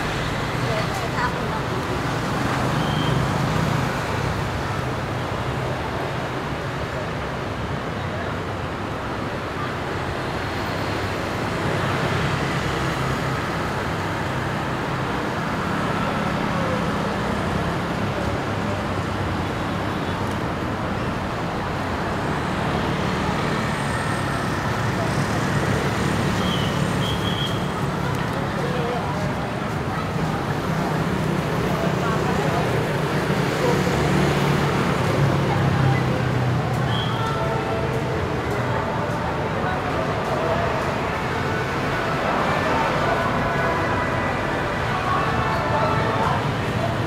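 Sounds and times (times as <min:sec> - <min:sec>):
voices: 0:00.0 - 0:04.7, 0:05.3 - 0:47.0
street traffic: 0:00.0 - 0:47.0.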